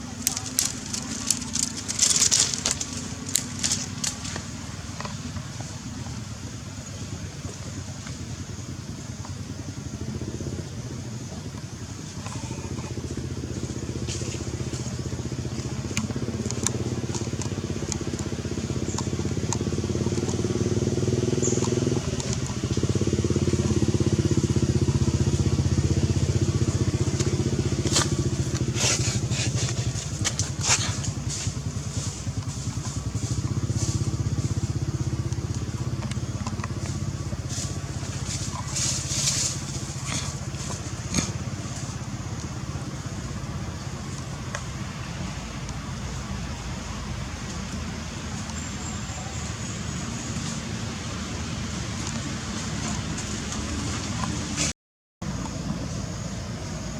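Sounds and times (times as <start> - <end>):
small engine running: 0.0 - 54.7.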